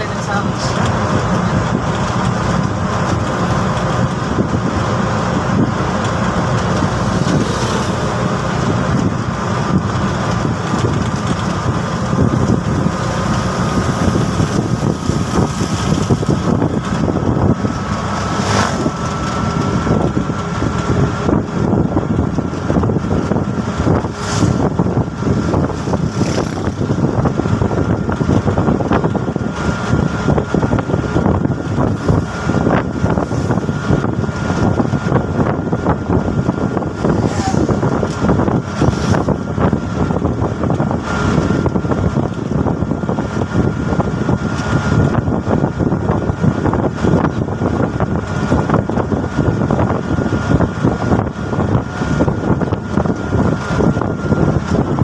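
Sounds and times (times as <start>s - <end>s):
road and rattle noise: 0.0s - 55.0s
three-wheeler engine running: 0.0s - 55.0s.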